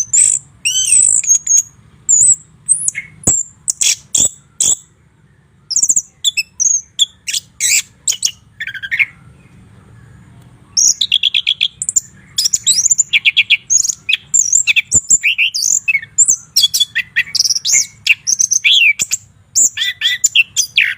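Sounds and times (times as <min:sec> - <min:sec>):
songbird whistles and trills: 0:00.0 - 0:20.9.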